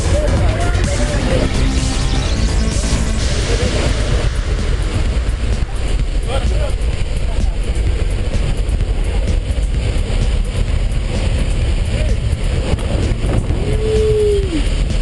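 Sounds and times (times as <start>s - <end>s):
aircraft engine noise: 0.0s - 15.0s
wind buffeting microphone: 0.0s - 15.0s
wind rushing: 0.0s - 15.0s.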